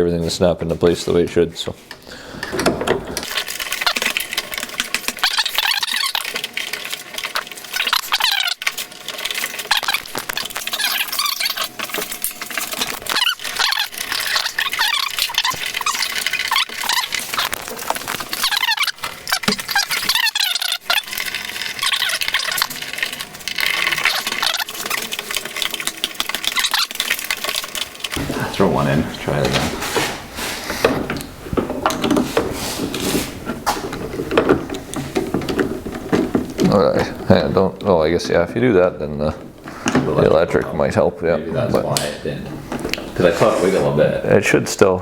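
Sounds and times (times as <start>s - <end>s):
plastic squeaking and scraping: 1.8s - 38.6s.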